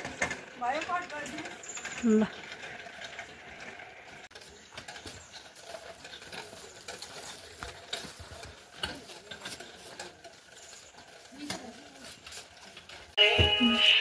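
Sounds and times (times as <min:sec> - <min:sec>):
metal prayer wheels clicking: 0:00.0 - 0:14.0.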